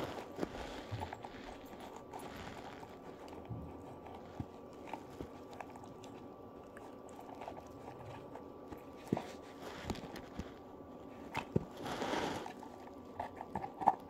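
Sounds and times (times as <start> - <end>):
puppy gnawing chew stick: 0.0 - 14.0.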